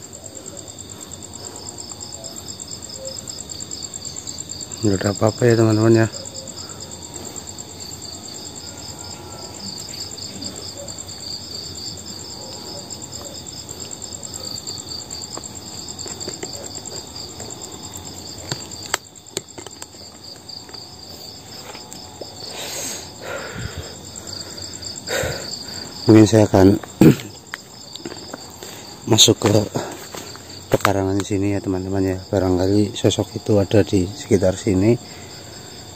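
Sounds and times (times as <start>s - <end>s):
night insects trilling: 0.0s - 35.9s.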